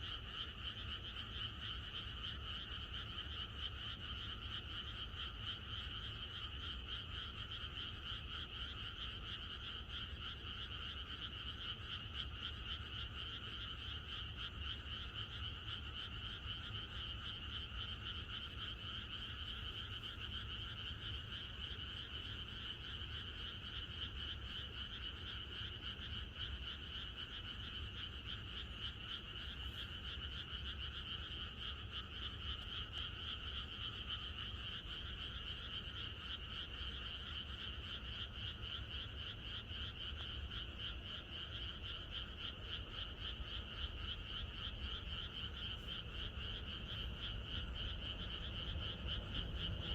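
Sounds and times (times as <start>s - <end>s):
chorus of frogs calling: 0.0s - 49.9s.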